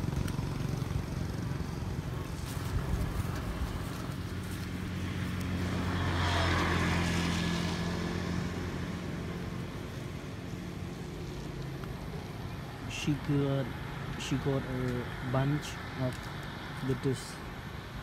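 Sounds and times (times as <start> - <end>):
vehicle engine passing by: 0.0 - 17.3.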